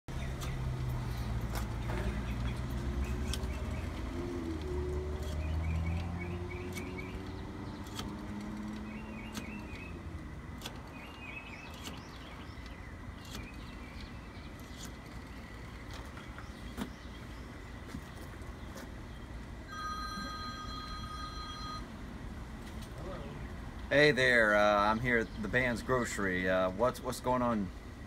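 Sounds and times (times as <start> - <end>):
birds chirping: 0.1 - 21.3, 22.9 - 28.0
vehicle engine humming: 0.1 - 26.8.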